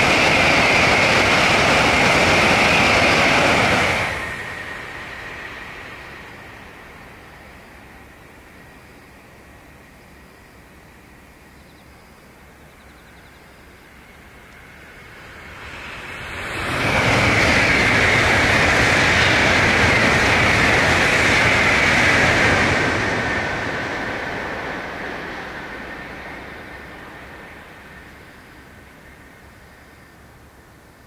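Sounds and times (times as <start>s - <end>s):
high-speed train passing: 0.0s - 31.0s.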